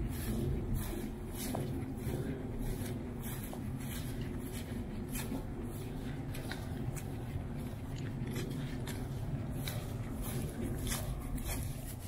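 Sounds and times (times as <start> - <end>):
footsteps on trail: 0.0 - 12.0
low microphone rumble: 0.0 - 12.0.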